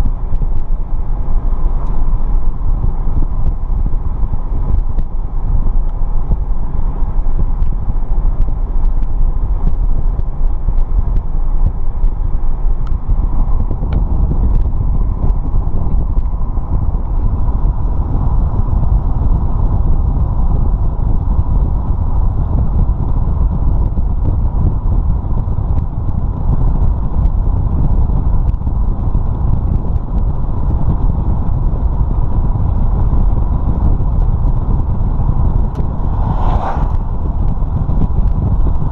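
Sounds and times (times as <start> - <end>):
vehicle road rumble: 0.0 - 38.9.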